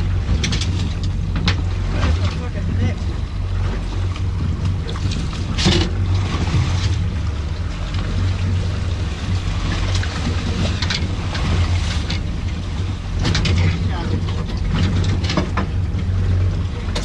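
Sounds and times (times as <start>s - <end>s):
boat engine humming: 0.0s - 17.0s
water noise: 0.0s - 17.0s.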